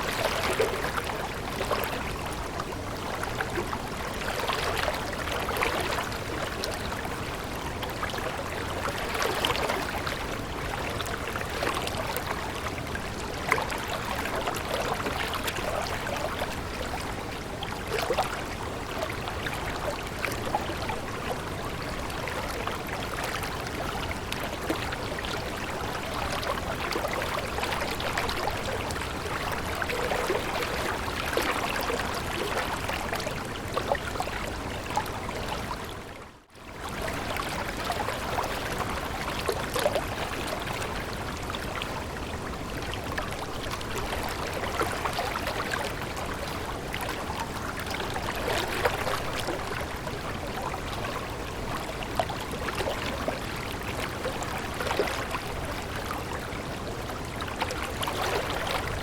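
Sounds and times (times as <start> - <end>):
stream of running water: 0.0 - 59.0.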